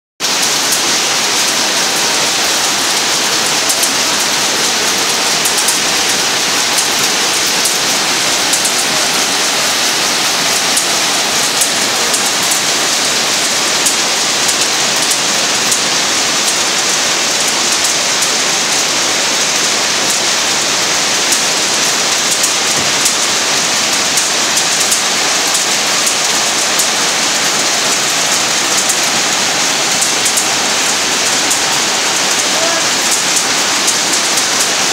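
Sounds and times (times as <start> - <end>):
peanuts rattling on metal trays: 0.4 - 34.9.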